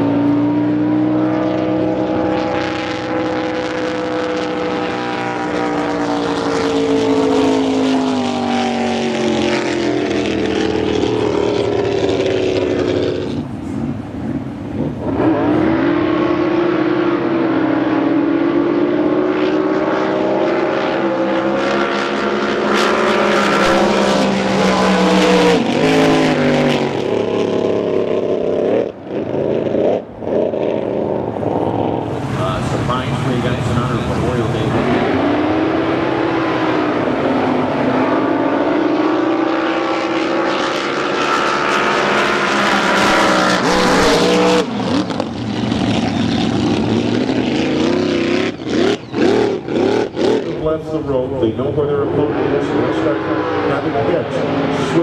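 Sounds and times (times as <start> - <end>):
boat engine running at low speed: 0.0 - 15.2, 16.5 - 49.8.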